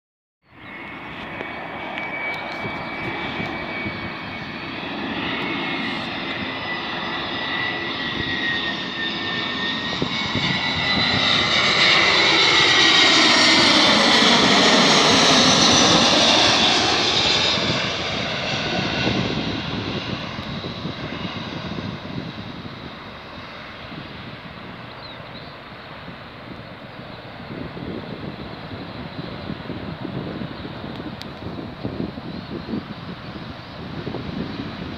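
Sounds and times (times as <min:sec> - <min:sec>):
jet airliner passing overhead: 0:00.4 - 0:34.9.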